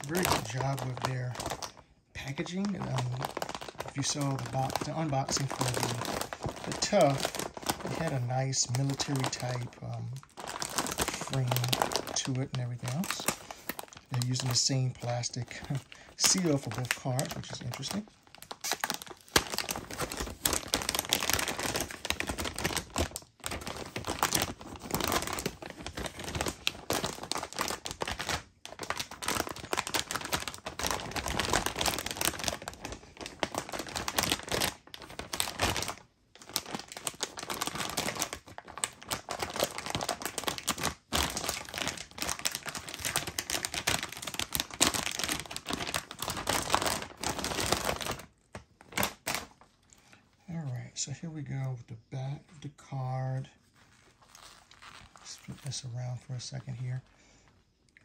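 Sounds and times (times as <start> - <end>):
plastic bag crinkling: 0.0 - 50.4, 53.2 - 57.6.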